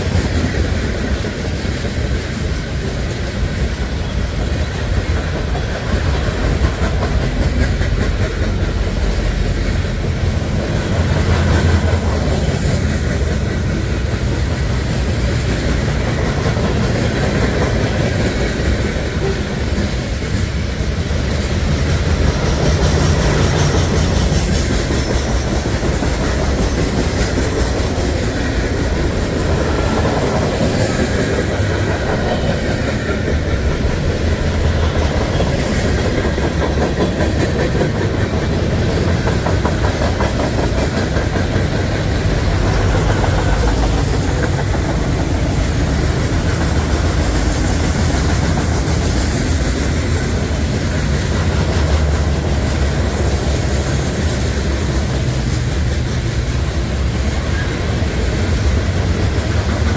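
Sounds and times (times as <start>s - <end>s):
train rumbling past: 0.0s - 59.9s
wheels clacking over rails: 0.0s - 59.9s.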